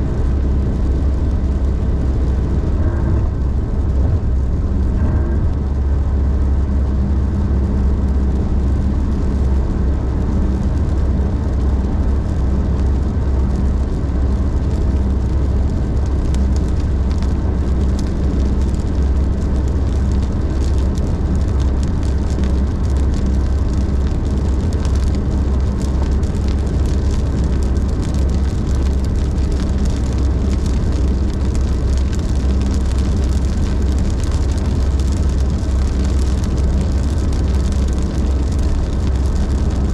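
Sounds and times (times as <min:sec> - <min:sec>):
car road and engine rumble: 0:00.0 - 0:39.9
rain pattering on car: 0:00.0 - 0:39.9.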